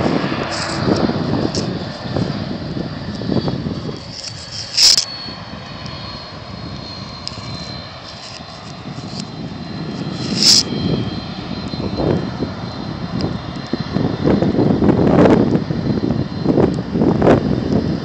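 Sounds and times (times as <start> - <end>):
high whine: 0.0 - 18.0
jet engines rushing: 0.0 - 18.0.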